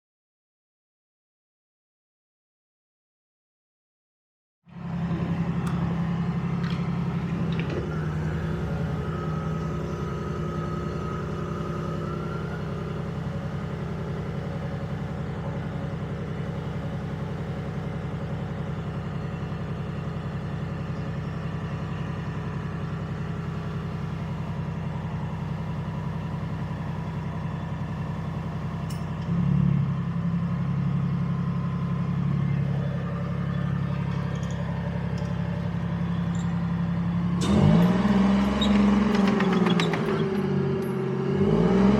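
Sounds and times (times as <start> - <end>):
tracked vehicle engine running: 4.7 - 41.9.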